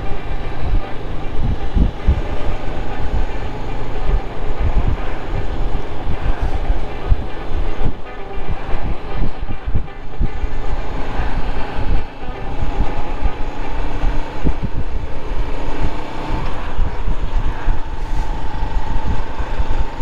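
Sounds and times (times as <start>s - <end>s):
motorcycle engine hum: 0.0s - 20.0s
wind buffeting microphone: 0.0s - 20.0s.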